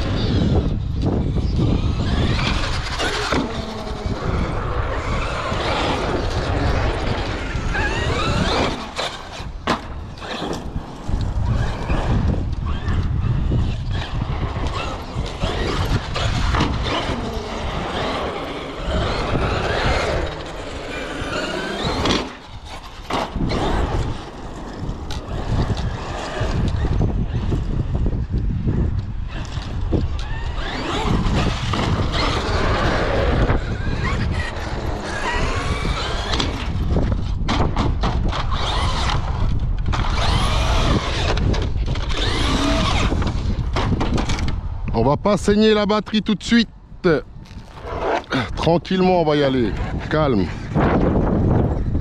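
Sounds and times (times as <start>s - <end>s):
electric motor whining: 0.0s - 37.4s, 38.2s - 44.5s
wind rumbling on microphone: 0.0s - 52.0s.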